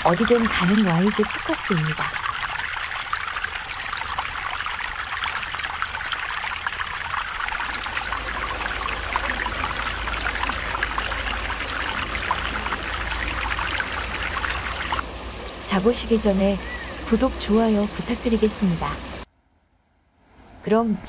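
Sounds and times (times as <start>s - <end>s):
stream trickling over stones: 0.0s - 19.2s.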